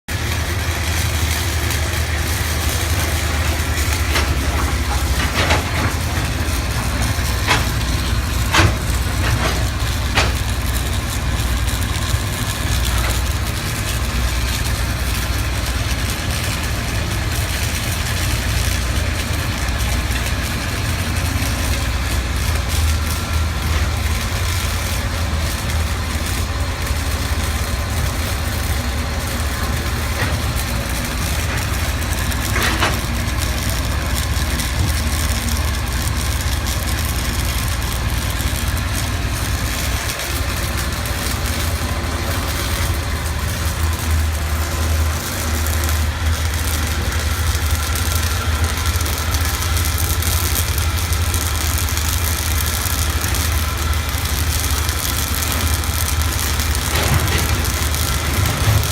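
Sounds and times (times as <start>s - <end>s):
low engine drone: 0.0s - 58.9s
welding arc crackling: 0.1s - 58.9s.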